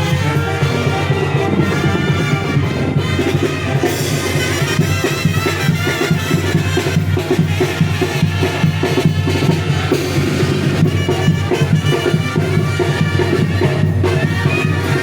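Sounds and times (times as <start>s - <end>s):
bass drum beating: 0.0s - 15.0s
brass band playing: 0.0s - 15.0s.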